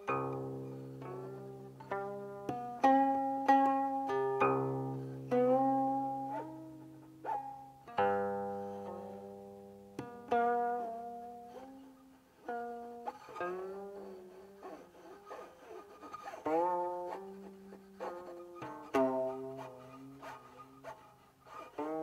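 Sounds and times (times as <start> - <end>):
plucked zither notes sliding: 0.0 - 22.0.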